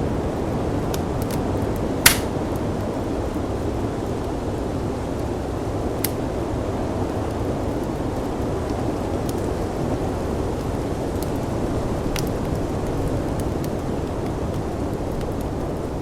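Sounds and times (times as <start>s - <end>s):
firepit crackling pops: 0.5s - 16.0s.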